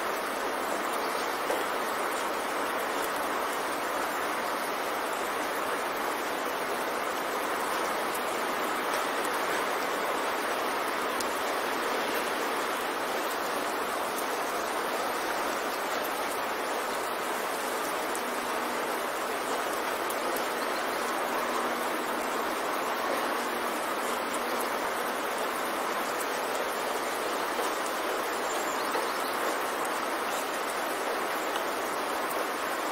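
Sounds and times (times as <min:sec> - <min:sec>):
steady hiss of noise: 0:00.0 - 0:32.9.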